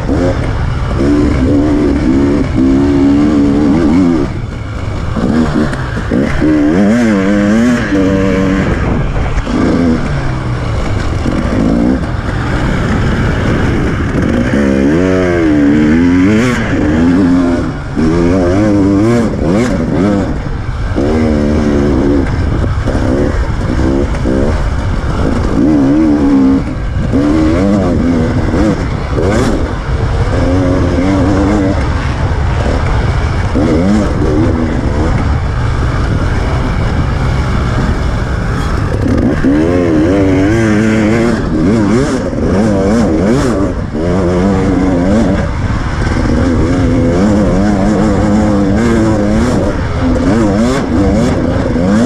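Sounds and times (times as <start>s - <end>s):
motorcycle engine revving: 0.0s - 52.0s
rushing noise: 0.0s - 52.0s.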